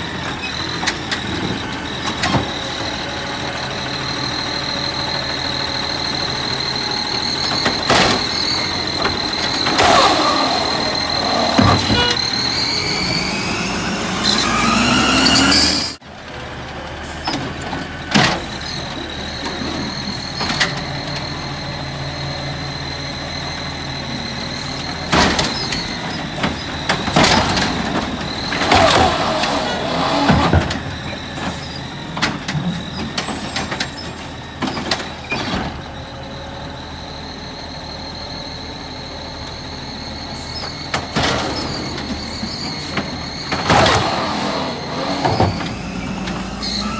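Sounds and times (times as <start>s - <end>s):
garbage truck engine whine: 0.0s - 46.9s
hydraulic arm whine: 0.1s - 16.0s, 18.4s - 46.9s.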